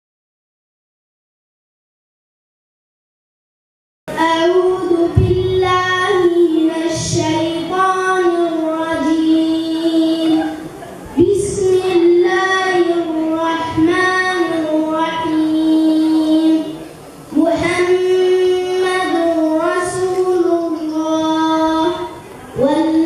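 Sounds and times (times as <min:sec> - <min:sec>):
child chanting melodically: 0:04.1 - 0:23.0.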